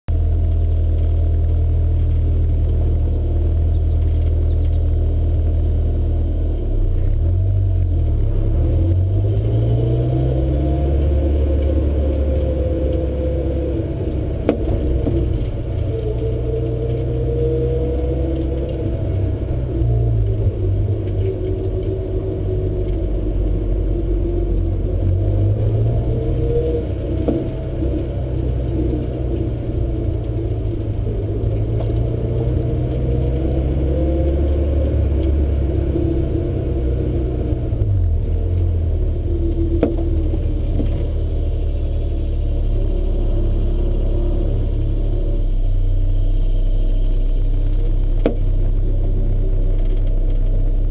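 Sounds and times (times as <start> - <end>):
car engine running: 0.1 - 50.9.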